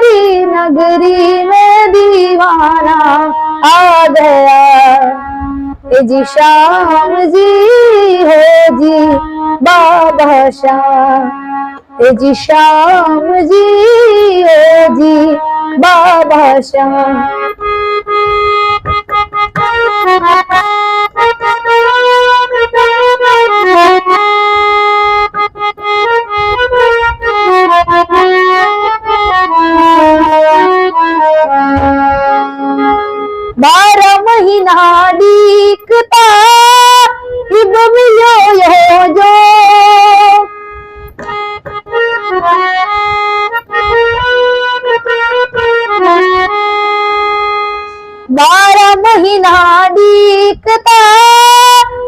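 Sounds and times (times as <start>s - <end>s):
reedy keyboard melody: 0.0s - 52.0s.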